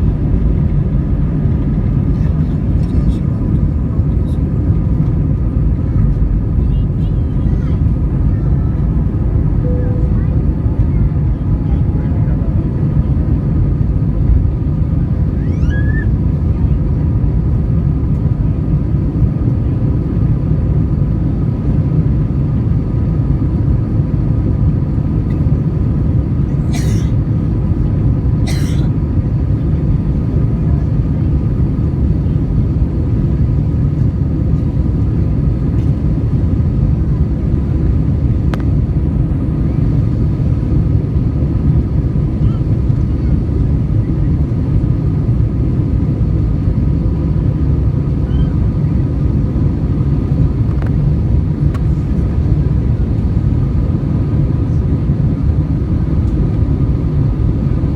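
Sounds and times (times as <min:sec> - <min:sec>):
jet engines rumbling: 0:00.0 - 0:57.9.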